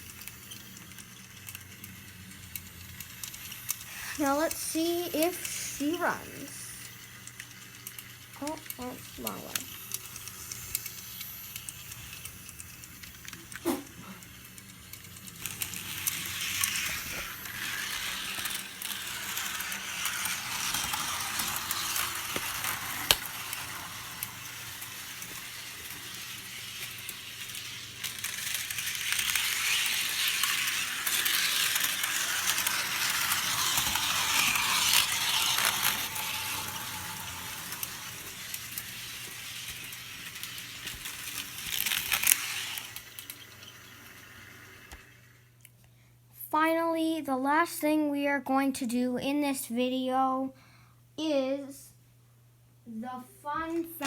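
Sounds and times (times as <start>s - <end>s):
model train rattling over rails: 0.0s - 13.6s, 14.3s - 45.2s.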